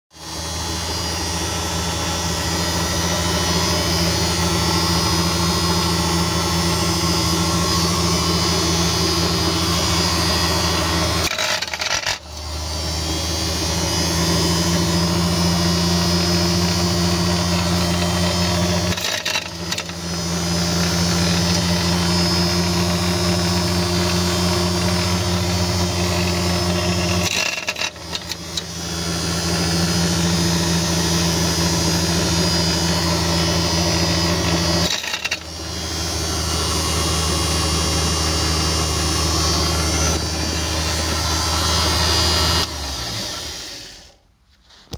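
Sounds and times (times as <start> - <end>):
nut-splitter motor humming: 0.2 - 44.2.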